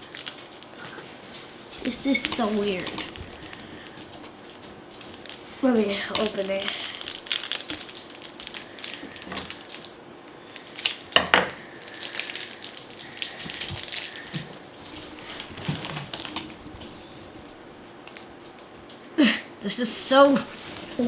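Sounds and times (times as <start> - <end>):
packaging crinkling: 0.0 - 19.0, 20.4 - 21.0.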